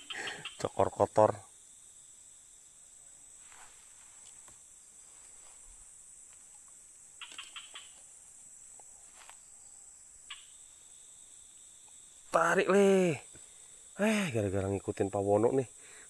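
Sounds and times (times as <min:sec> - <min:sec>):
insect chorus: 0:00.0 - 0:16.0
short insect chirps: 0:00.0 - 0:16.0.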